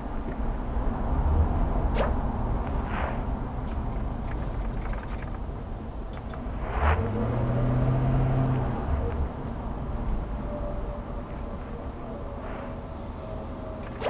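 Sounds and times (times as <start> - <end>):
city traffic rumble: 0.0 - 14.0
nearby vehicle engine hum: 0.1 - 14.0.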